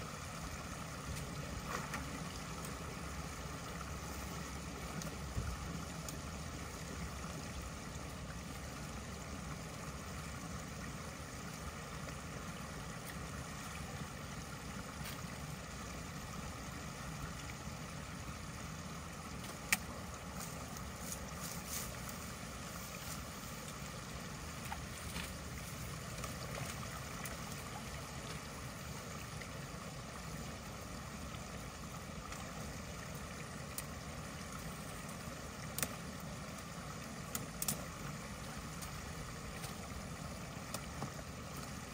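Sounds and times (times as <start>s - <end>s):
water rushing through culvert: 0.0s - 41.9s.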